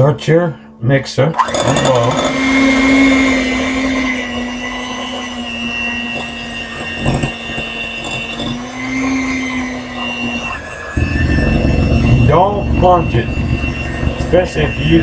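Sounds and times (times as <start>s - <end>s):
electric hand mixer running: 1.4s - 15.0s.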